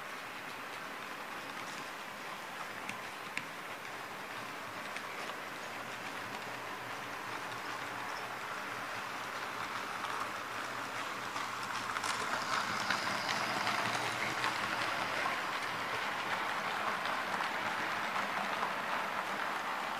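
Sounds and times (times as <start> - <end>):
model train wheels rattling on rails: 0.0 - 19.9.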